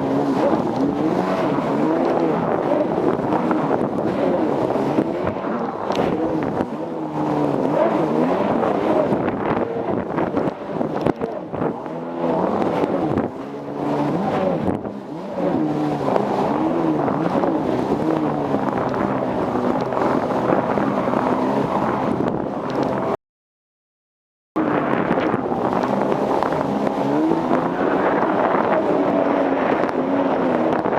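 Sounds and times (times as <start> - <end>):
jet ski engine revving: 0.0 - 23.2, 24.6 - 30.9.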